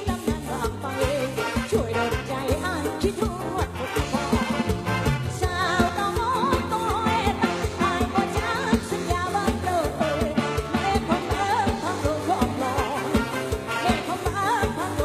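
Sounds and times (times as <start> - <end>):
bass: 0.0 - 15.0
fast drum beat: 0.0 - 15.0.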